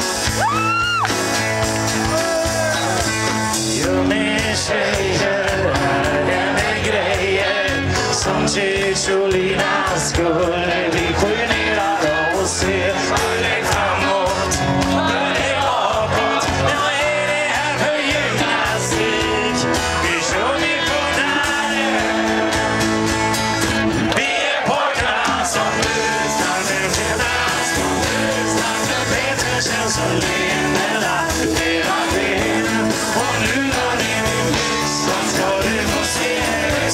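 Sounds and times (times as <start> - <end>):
live rock band playing: 0.0 - 36.9
man singing: 2.0 - 22.9, 24.1 - 36.9.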